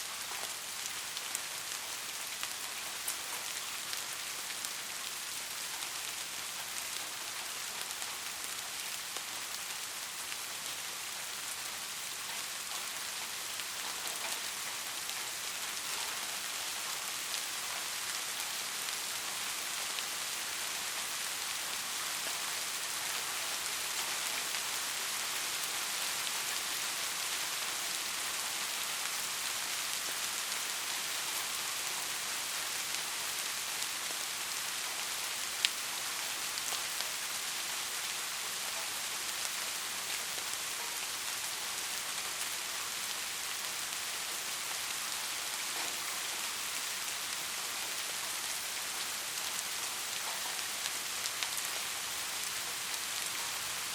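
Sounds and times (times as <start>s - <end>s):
soft rain falling: 0.0s - 53.9s.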